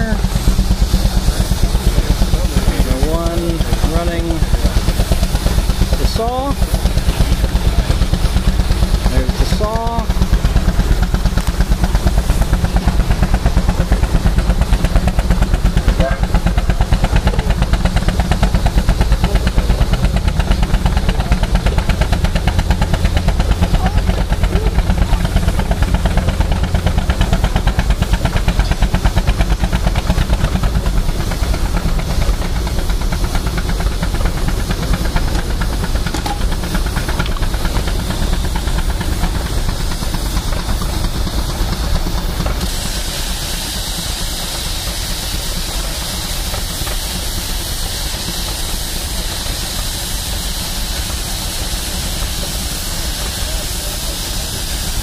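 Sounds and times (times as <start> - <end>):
steam engine rhythmic beat: 0.0 - 55.0
steam hissing: 0.0 - 55.0.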